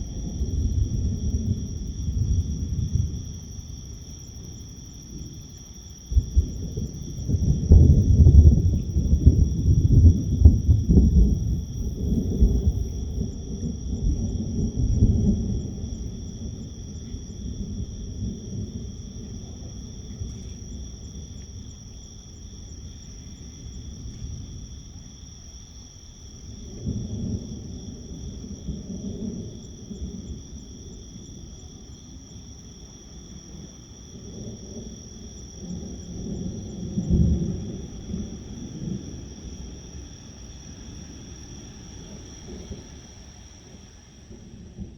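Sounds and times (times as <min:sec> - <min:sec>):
distant thunder rumbling: 0:00.0 - 0:25.0, 0:26.4 - 0:44.9
insects chirring: 0:00.0 - 0:44.9.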